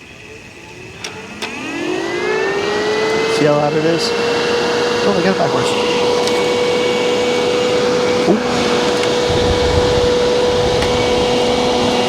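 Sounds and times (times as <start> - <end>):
electric fan running loud: 0.0 - 12.0.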